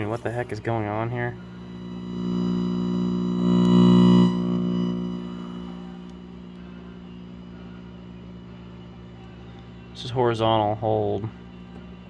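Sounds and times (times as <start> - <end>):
television speaker electrical buzz: 0.0 - 12.0.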